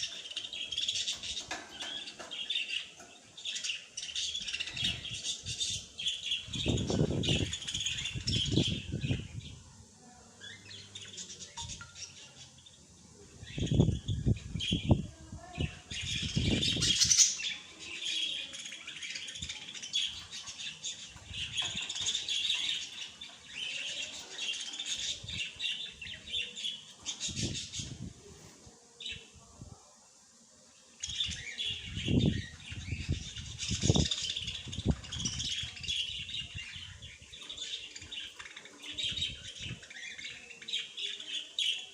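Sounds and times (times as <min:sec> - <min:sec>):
small birds chirping: 0:00.0 - 0:29.5, 0:30.4 - 0:41.9.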